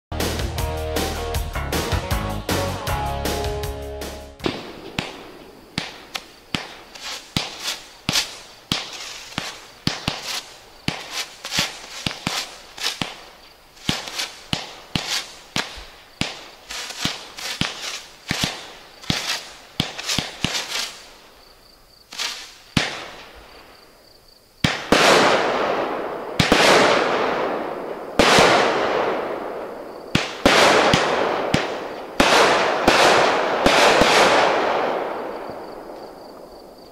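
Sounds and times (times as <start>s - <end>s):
firework shots and bursts: 4.4s - 21.2s, 22.1s - 23.4s, 24.6s - 36.5s.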